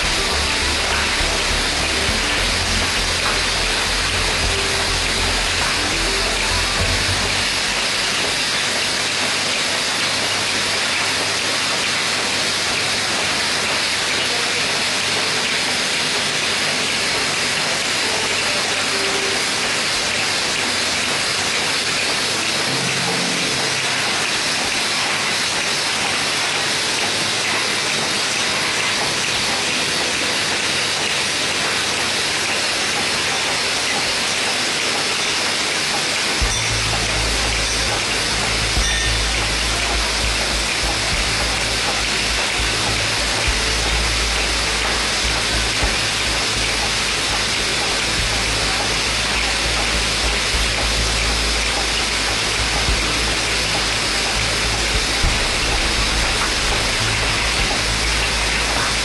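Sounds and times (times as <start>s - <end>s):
machine hissing steadily: 0.0s - 59.0s.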